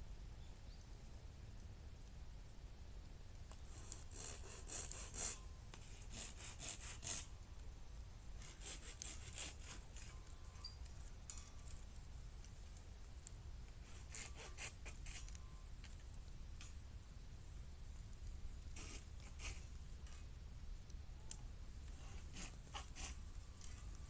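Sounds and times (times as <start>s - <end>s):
bamboo crackling as it burns: 1.3s - 24.0s.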